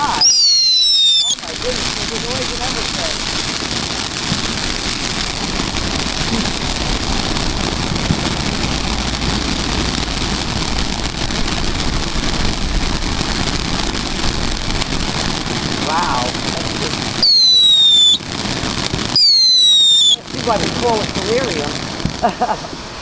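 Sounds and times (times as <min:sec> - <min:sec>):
fireworks crackling and hissing: 0:00.0 - 0:23.0
wind rumbling on microphone: 0:00.0 - 0:23.0.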